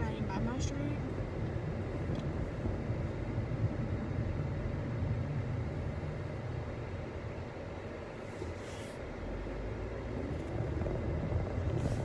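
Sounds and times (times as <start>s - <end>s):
road and engine rumble in car cabin: 0.0s - 12.0s.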